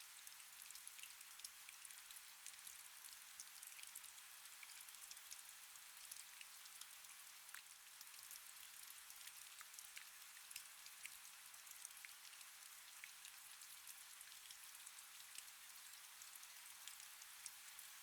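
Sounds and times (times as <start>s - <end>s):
faint rain: 0.0s - 18.0s.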